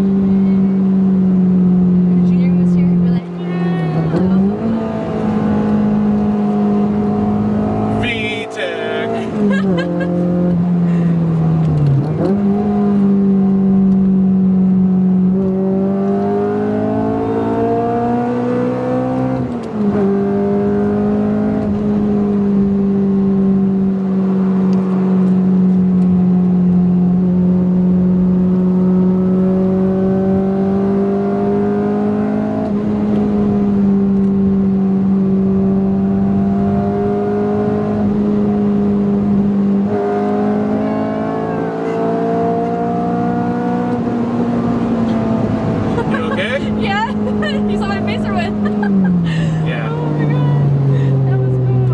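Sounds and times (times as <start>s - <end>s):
car engine running hard: 0.0s - 51.9s.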